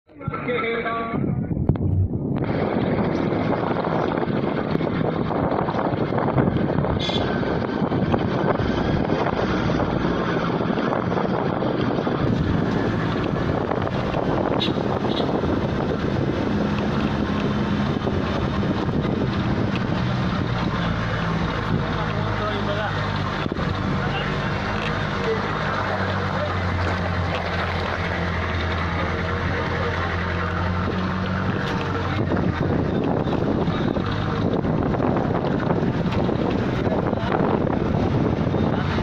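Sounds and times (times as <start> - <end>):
wind on microphone: 0.1 - 22.4, 23.0 - 39.0
car engine and tyre noise: 0.1 - 39.0.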